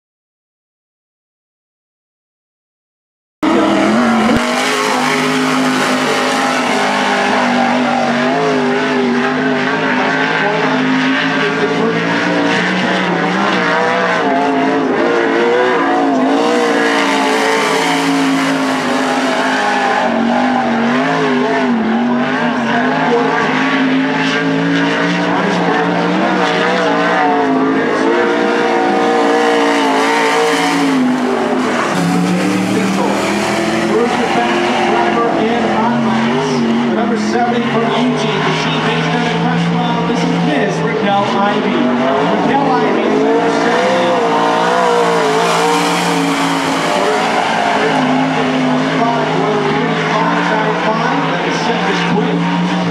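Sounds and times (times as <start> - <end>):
race car engine running hard: 3.4 - 52.9.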